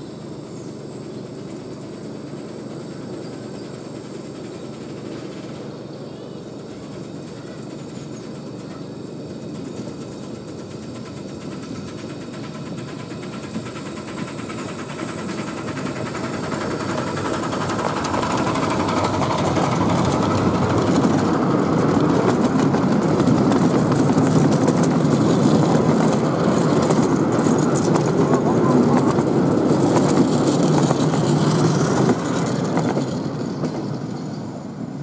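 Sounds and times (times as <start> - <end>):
miniature steam locomotive passing: 0.0 - 35.0
wheels on rails: 0.0 - 35.0.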